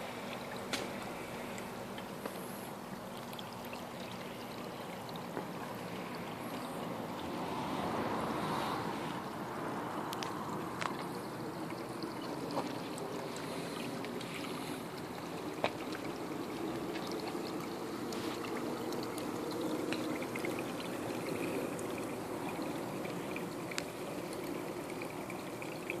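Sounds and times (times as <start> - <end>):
water running and bubbling: 0.0 - 26.0.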